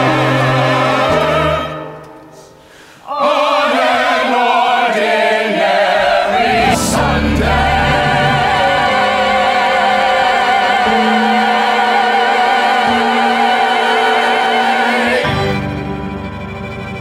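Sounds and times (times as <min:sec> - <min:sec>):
choir singing held chords: 0:00.0 - 0:16.4.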